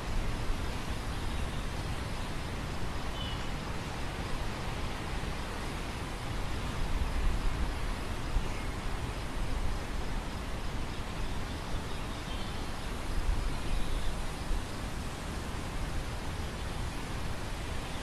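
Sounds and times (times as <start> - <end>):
wind rustling across grain field: 0.0 - 18.0.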